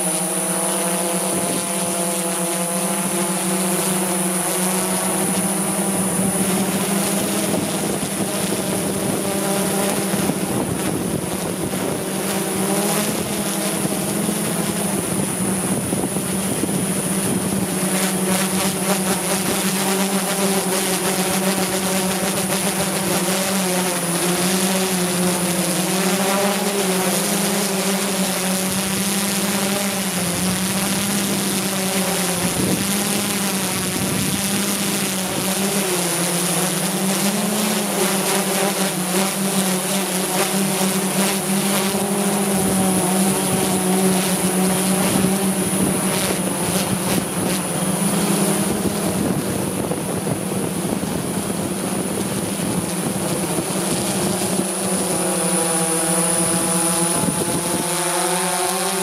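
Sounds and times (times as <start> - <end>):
drone propellers humming: 0.0 - 59.0
high whine of drone: 0.0 - 59.0.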